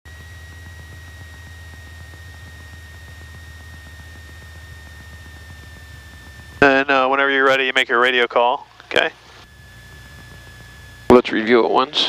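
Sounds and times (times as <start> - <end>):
aircraft engine idling hum: 0.1 - 12.0
high-pitched electrical whine: 0.1 - 12.0.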